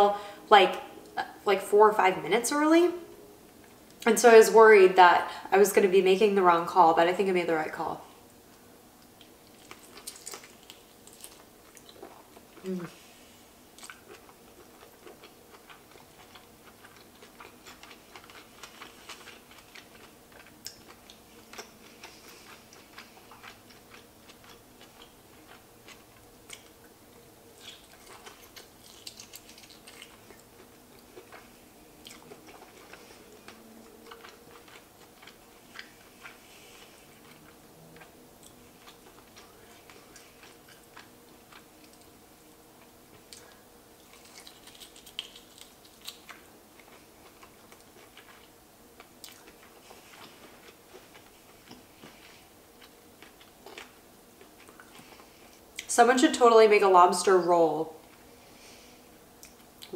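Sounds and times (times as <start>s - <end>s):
faint steady hum: 0.0s - 59.9s
soft chewing: 8.2s - 55.9s, 58.0s - 59.9s.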